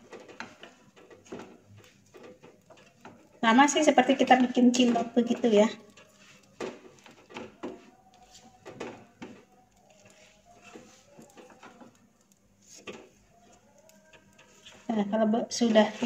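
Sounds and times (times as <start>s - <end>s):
spatula scraping a frying pan: 0.0s - 16.0s.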